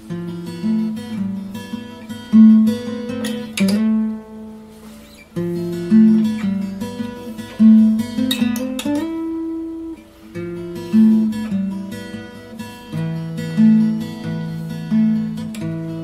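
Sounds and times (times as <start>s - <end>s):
instrumental guitar music: 0.0s - 16.0s.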